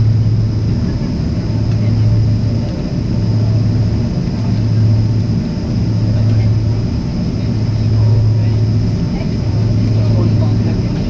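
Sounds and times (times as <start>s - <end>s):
airplane cabin engine rumble: 0.0s - 11.0s
constant low hum: 0.0s - 11.0s.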